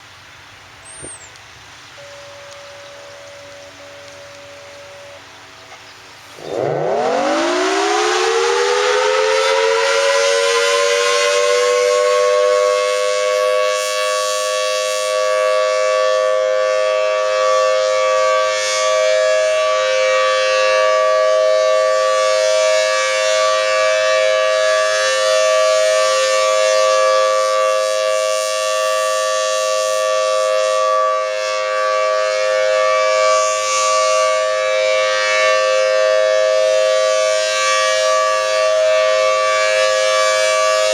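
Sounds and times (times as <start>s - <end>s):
civil defense siren wailing: 1.9s - 40.9s.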